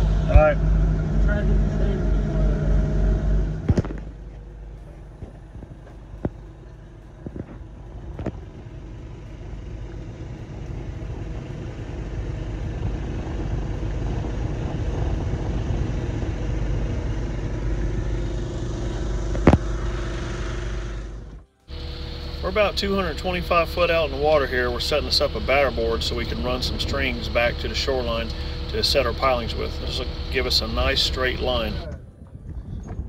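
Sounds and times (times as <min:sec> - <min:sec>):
machine engine rumbling: 0:00.0 - 0:33.0.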